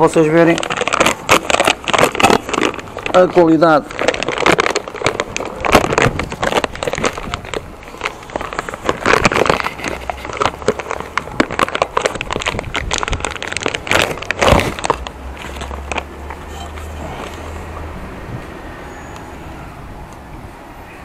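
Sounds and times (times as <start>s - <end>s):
plastic bag crinkling: 0.0s - 17.9s.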